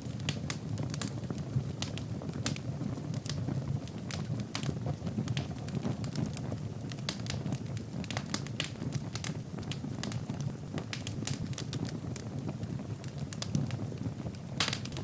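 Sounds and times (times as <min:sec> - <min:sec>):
rush of flames: 0:00.0 - 0:15.0
wood fire crackling: 0:00.0 - 0:15.0.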